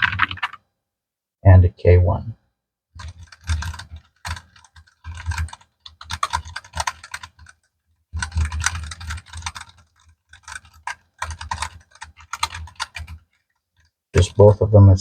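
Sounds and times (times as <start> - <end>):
keyboard typing: 0.0 - 0.6, 3.0 - 14.7.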